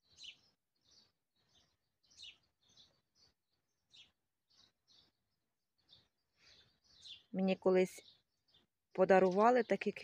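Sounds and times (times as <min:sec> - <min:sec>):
faint bird chirping: 0:00.0 - 0:10.0.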